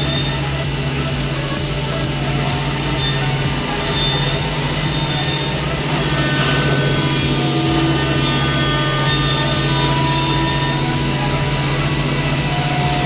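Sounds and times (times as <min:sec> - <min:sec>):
high machine whine: 0:00.0 - 0:13.0
machine hum: 0:00.0 - 0:13.0.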